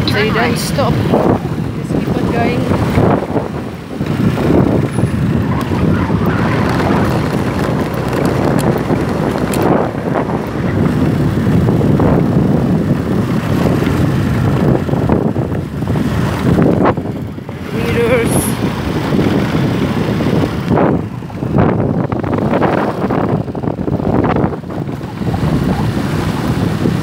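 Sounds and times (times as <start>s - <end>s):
scooter road and engine noise: 0.0s - 27.0s
wind buffeting microphone: 0.0s - 27.0s.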